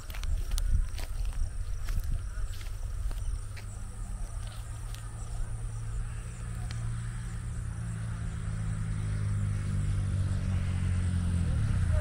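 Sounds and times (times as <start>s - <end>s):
crickets trilling: 0.0s - 12.0s
low motor hum: 0.0s - 12.0s.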